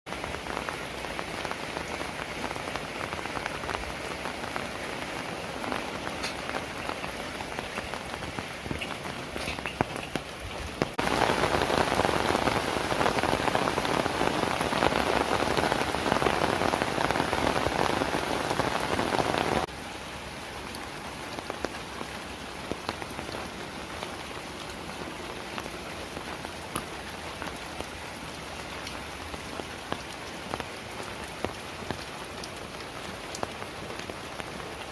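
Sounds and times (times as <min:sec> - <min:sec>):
heavy rain falling: 0:00.1 - 0:34.9.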